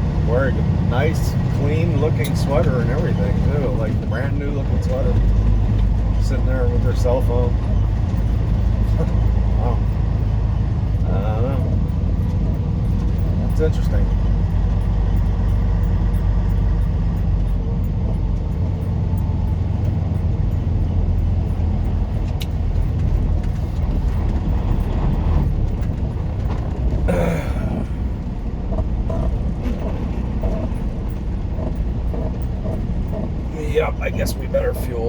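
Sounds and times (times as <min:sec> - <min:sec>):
truck diesel engine rumbling: 0:00.0 - 0:35.0
faint regular ticking: 0:00.2 - 0:35.0.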